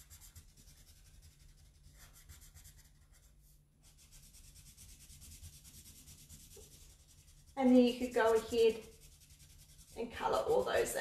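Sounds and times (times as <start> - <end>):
felt-tip marker scratching on paper: 0.0 - 11.0.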